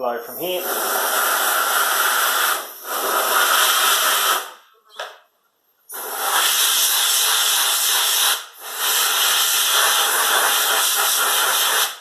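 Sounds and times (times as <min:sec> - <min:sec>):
compressed air hissing: 0:00.2 - 0:04.6, 0:05.9 - 0:12.0.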